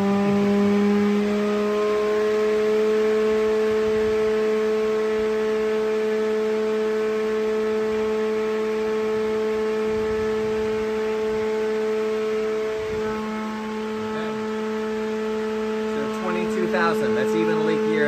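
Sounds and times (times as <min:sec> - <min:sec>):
fan humming with whine: 0:00.0 - 0:18.0.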